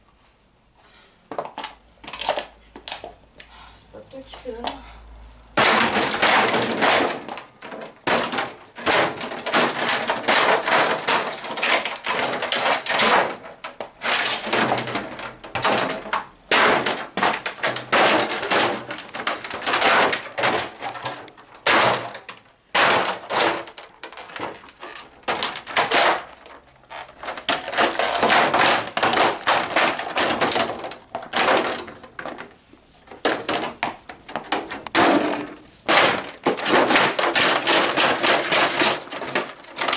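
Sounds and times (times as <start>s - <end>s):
plastic cracking and breaking: 1.3s - 3.2s, 5.6s - 39.9s.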